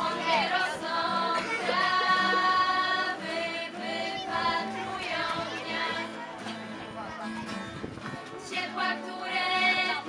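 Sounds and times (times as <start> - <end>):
group of voices singing: 0.0 - 6.7, 8.4 - 10.0
backing music: 0.0 - 10.0.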